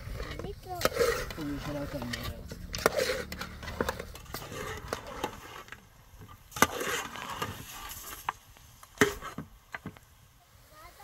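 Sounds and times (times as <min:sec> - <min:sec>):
utensil scraping metal pot: 0:00.0 - 0:09.5.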